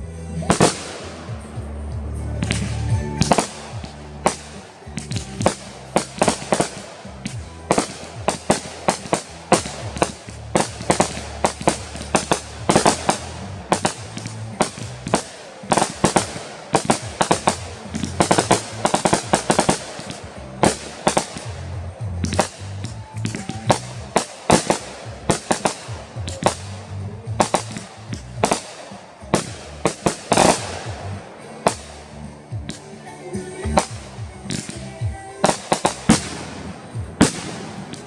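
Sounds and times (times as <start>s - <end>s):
fireworks shots and cracks: 0.5s - 1.5s, 2.4s - 33.0s, 33.6s - 38.0s.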